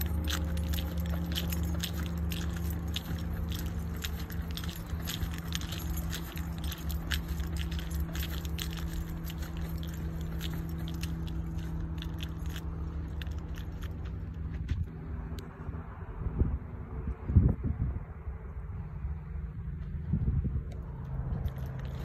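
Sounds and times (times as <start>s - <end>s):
footsteps crunching on dirt trail: 0.0s - 15.4s, 19.7s - 22.0s
steady low hum: 0.0s - 22.0s.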